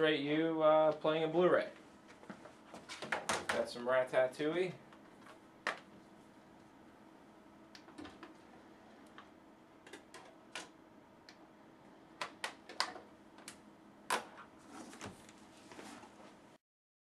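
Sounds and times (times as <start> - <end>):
faint steady hum: 0.0 - 16.6.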